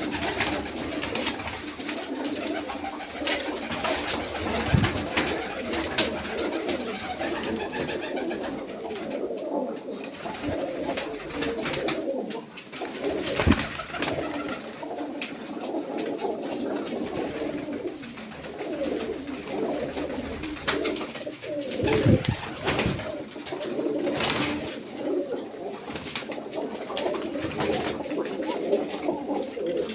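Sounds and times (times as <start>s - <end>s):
pigeons cooing: 0.0s - 29.9s.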